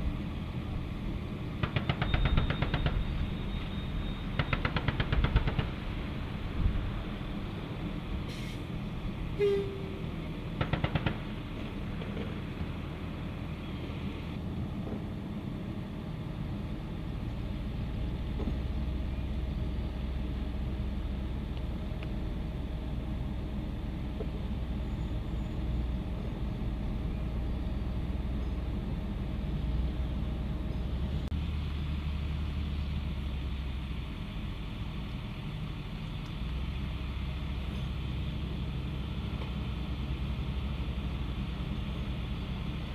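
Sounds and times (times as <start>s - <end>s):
vehicle engine rumbling: 0.0s - 42.9s.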